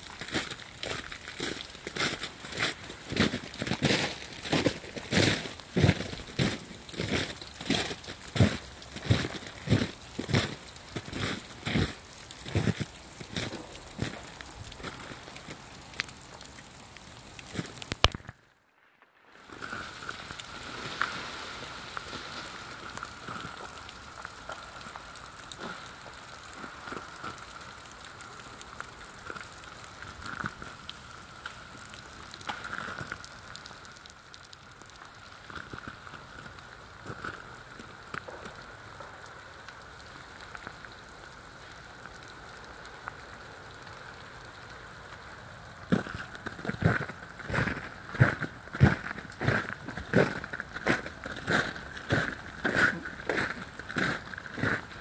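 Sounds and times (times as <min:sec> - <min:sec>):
freezing rain ticking on ice: 0:00.0 - 0:18.6, 0:19.3 - 0:55.0.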